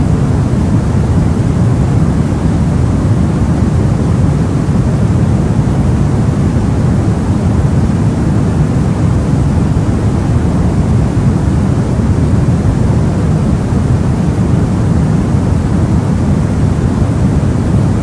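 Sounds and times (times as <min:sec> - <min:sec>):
deep white noise: 0:00.0 - 0:18.0.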